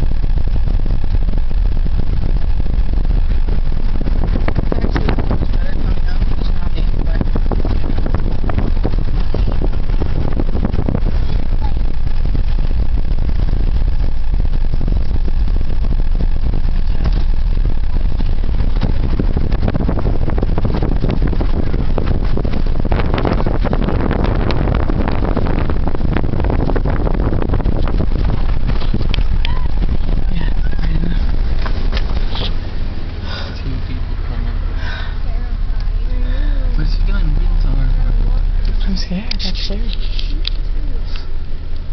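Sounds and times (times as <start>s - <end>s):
car rumble on rough road: 0.0s - 41.9s.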